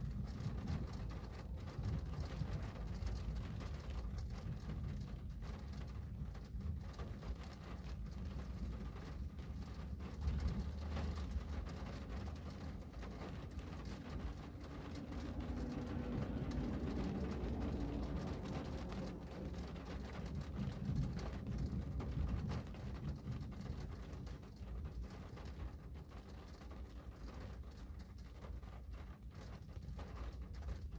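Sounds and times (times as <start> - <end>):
low steady rumble: 0.0 - 30.9
raindrops ticking on a window: 0.0 - 30.9.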